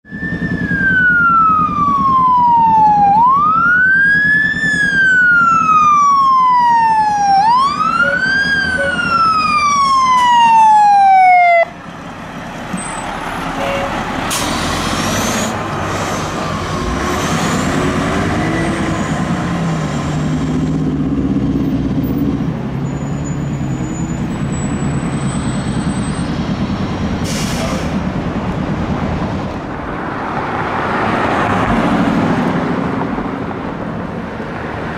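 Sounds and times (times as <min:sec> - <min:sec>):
fire engine siren wailing: 0:00.0 - 0:28.3
traffic noise: 0:00.0 - 0:34.9
diesel engine running: 0:00.1 - 0:30.3.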